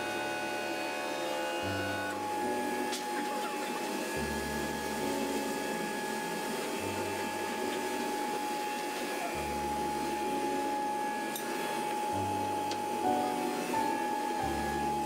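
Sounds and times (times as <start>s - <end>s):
workshop machinery droning: 0.0s - 15.0s.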